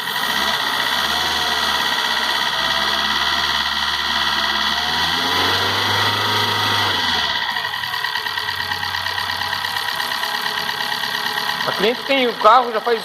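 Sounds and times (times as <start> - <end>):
car engine running and revving: 0.0 - 13.0
mechanical engine noise: 0.0 - 13.0.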